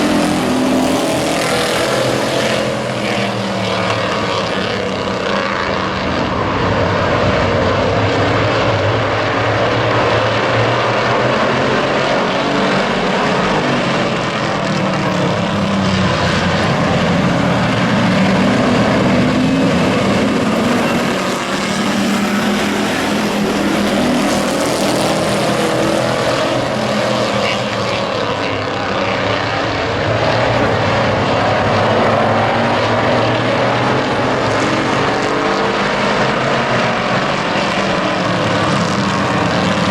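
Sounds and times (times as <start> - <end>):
race truck engines droning: 0.0 - 39.9.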